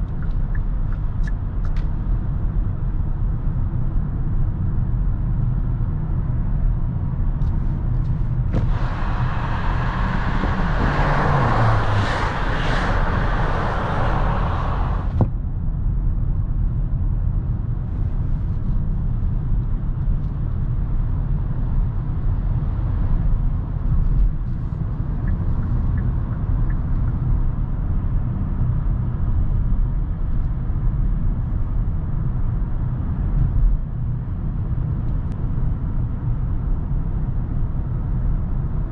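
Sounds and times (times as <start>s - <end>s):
engine and road noise rumble: 0.0s - 38.9s.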